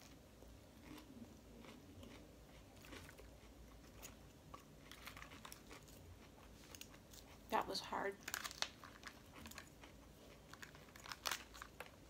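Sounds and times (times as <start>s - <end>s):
chewing salad: 0.0s - 12.0s.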